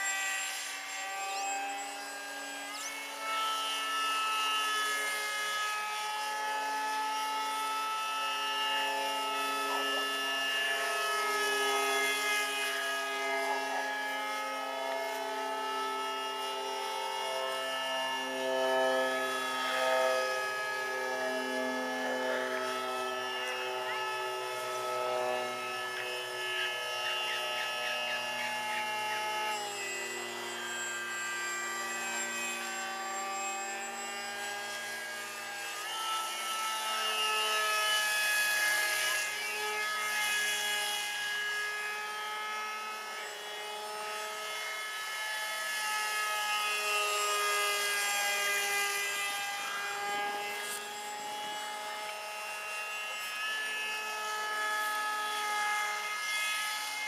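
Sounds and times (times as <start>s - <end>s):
model jet electric motor whining: 0.0s - 57.0s.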